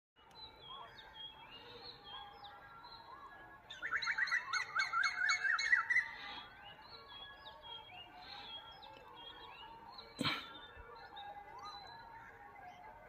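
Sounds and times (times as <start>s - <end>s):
rapid repeated birdsong notes: 0.2s - 13.0s
songbirds chirping: 0.2s - 13.0s.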